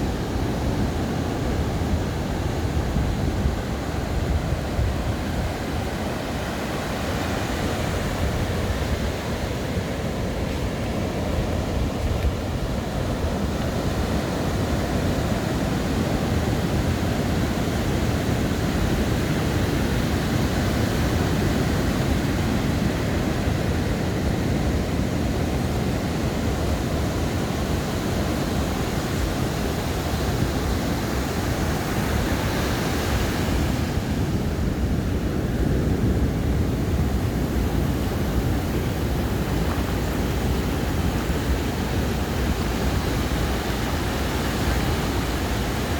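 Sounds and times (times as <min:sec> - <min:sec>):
ocean surf washing onto beach: 0:00.0 - 0:45.9
wind rumbling on microphone: 0:00.0 - 0:45.9.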